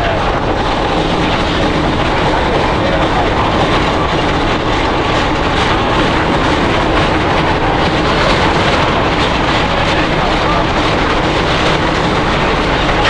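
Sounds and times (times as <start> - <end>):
roller coaster wheels on rails: 0.0 - 13.0.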